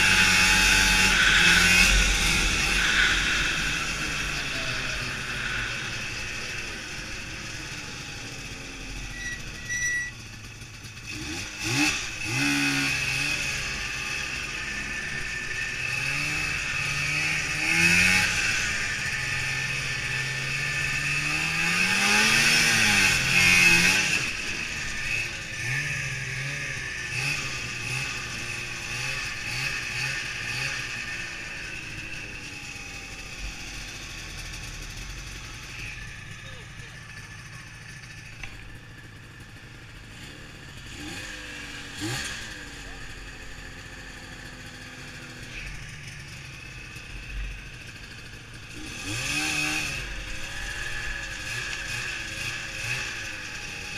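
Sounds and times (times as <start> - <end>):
snowmobile engine revving: 0.0 - 53.9.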